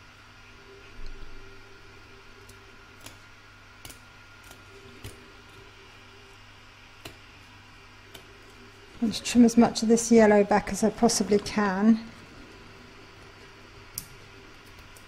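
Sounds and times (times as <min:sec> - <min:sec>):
computer fan whirr: 0:00.0 - 0:15.0.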